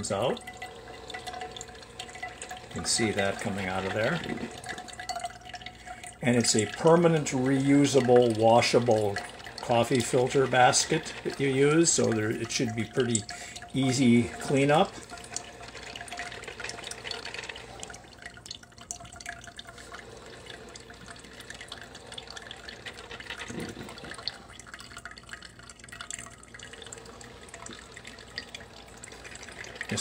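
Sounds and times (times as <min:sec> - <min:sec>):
coffee trickling into a mug: 0:00.0 - 0:30.0.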